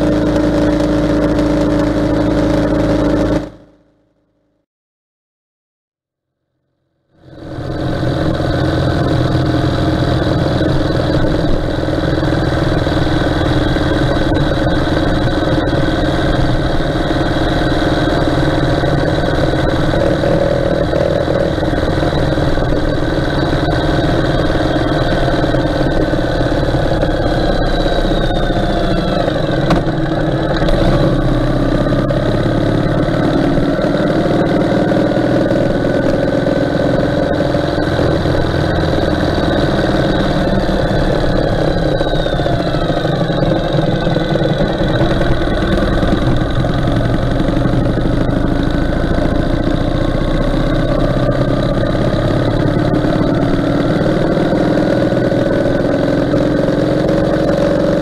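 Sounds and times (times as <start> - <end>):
motorcycle engine running: 0.0 - 4.1, 7.2 - 58.0.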